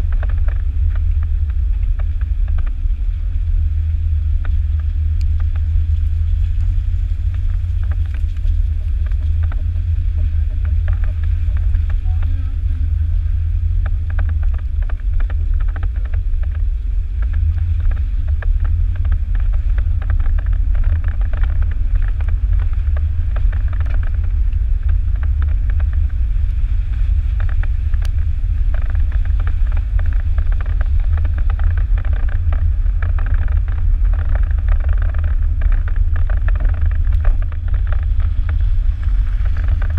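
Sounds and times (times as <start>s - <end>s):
gravel crackling under tyres: 0.0s - 39.9s
vehicle engine rumble: 0.0s - 39.9s.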